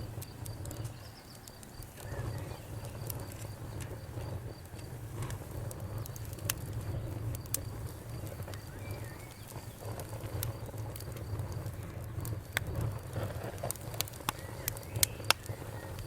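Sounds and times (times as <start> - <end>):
low rumble of flame: 0.0 - 16.0
wood fire crackling and popping: 0.0 - 16.0.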